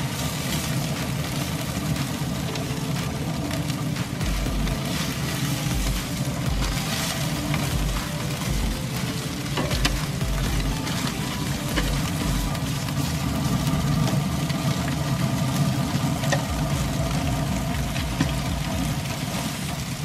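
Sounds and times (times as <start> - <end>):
background music: 0.0 - 20.0
grill humming: 0.0 - 20.0.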